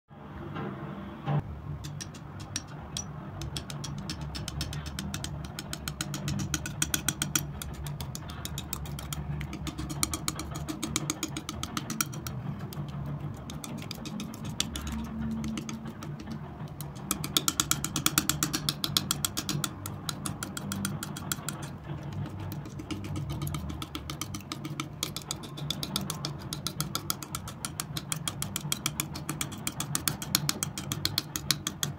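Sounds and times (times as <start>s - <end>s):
steady low hum: 0.2s - 31.9s
palette knife spreading wet paint: 3.4s - 31.9s.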